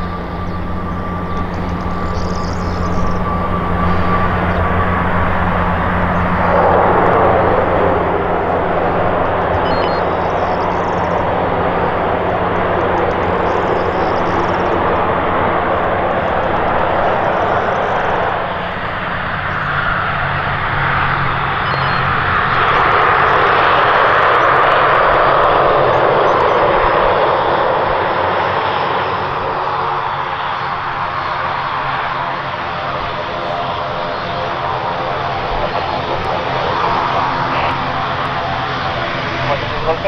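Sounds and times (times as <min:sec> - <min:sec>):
low propeller drone: 0:00.0 - 0:40.0.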